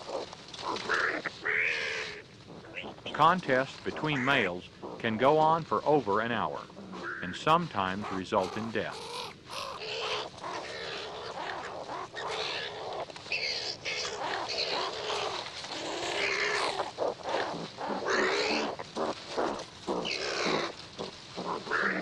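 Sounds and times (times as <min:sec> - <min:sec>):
skunks giving harsh calls: 0:00.0 - 0:22.0.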